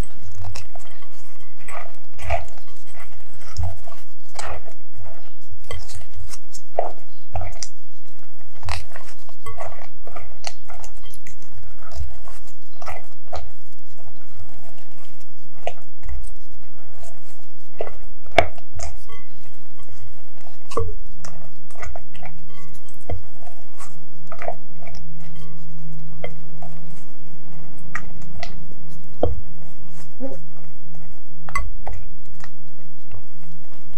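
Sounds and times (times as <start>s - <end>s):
spatula squelching and scraping bowl: 0.0s - 33.9s.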